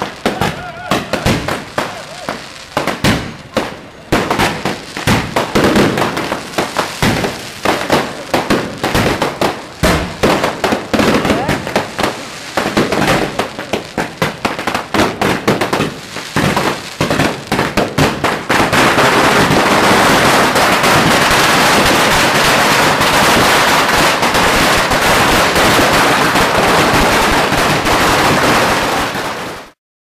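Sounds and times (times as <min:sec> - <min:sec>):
firecrackers exploding: 0:00.0 - 0:29.8.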